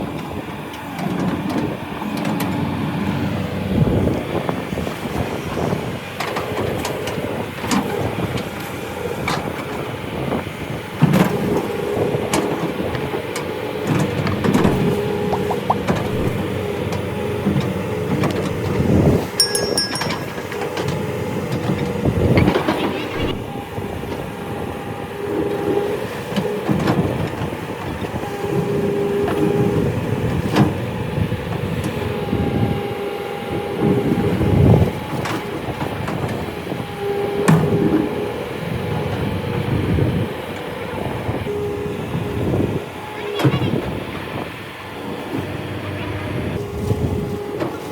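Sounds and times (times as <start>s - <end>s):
diesel engine running: 0.0s - 47.9s
hydraulic whine: 2.9s - 47.9s.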